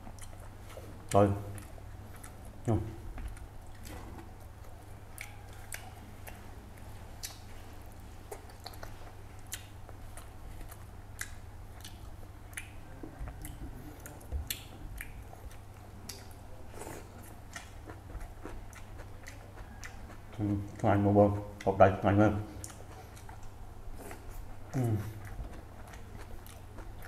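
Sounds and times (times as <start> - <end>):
person chewing and biting: 3.2 - 20.9, 22.6 - 27.0.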